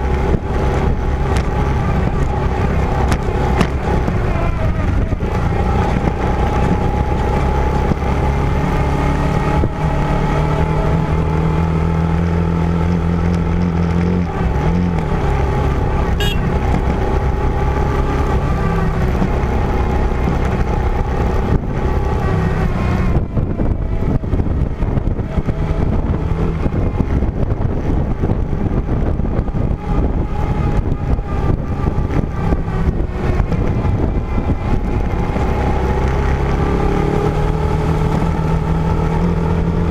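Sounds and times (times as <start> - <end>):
rough off-road ride noise: 0.0 - 39.9
vehicle engine running: 0.0 - 39.9.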